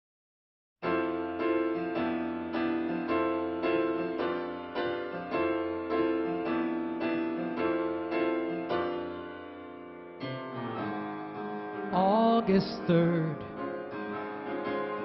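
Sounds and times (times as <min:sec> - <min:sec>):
piano chords ringing: 0:00.8 - 0:15.0.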